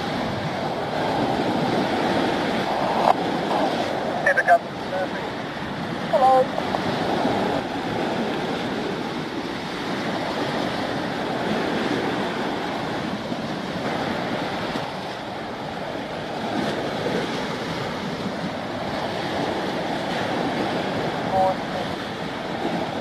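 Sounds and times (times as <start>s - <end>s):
waves washing on shingle beach: 0.0s - 23.0s
wind buffeting microphone: 0.0s - 23.0s.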